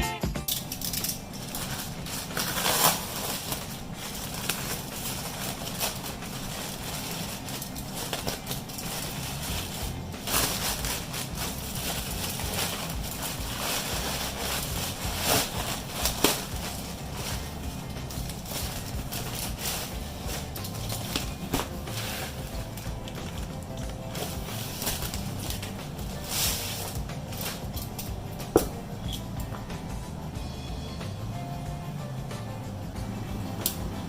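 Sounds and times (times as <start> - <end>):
packaging rustling and crinkling: 0.5 - 29.3.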